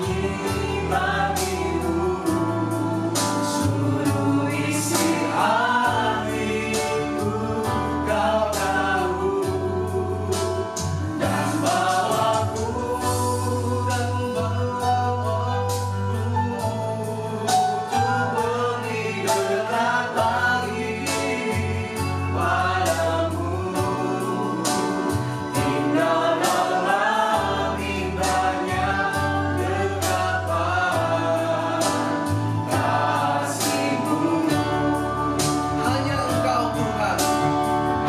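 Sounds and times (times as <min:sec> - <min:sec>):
group singing worship song: 0:00.0 - 0:38.0
instrumental backing with beat: 0:00.0 - 0:38.0.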